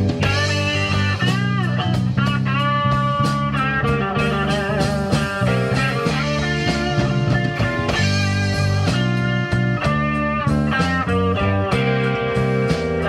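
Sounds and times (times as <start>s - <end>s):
blues band playing: 0.0s - 13.0s
lead electric guitar: 0.0s - 13.0s.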